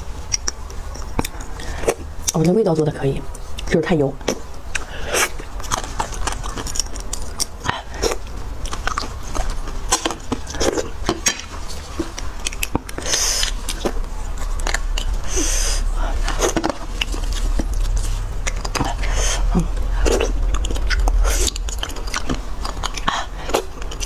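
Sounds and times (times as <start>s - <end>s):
wet chewing: 0.0s - 2.5s, 3.3s - 24.0s.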